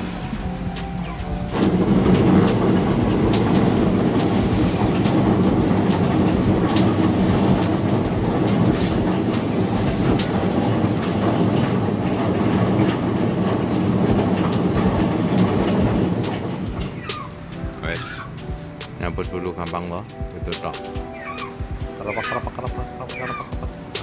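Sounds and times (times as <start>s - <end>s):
feather plucker drum churning: 0.0s - 24.0s
chickens knocking in drum: 1.5s - 24.0s.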